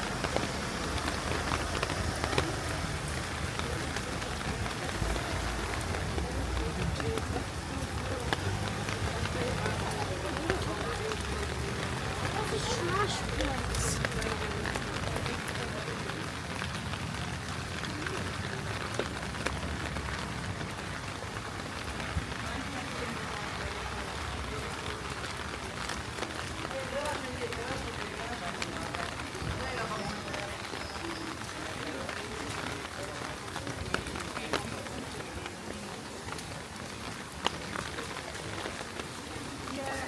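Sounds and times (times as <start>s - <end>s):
rain falling on street: 0.0s - 40.0s.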